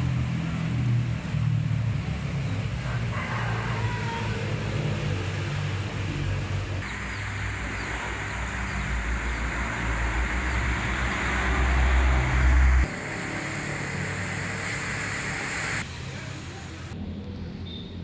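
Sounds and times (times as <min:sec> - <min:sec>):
rain patter: 0:00.0 - 0:03.1, 0:04.4 - 0:17.0.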